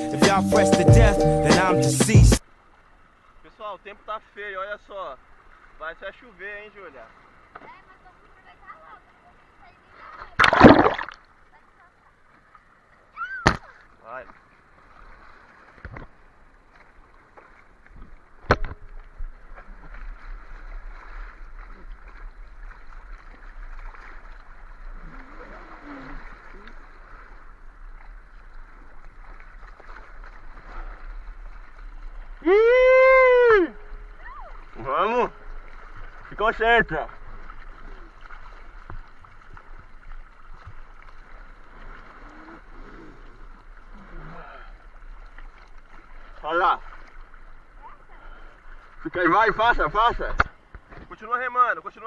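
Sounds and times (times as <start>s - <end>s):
sea water sloshing: 2.4s - 51.2s.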